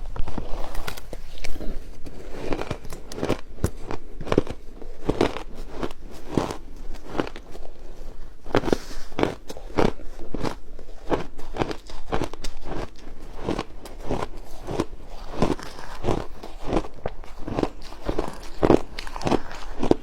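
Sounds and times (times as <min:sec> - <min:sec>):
ice crunching being chewed: 0:00.0 - 0:20.0.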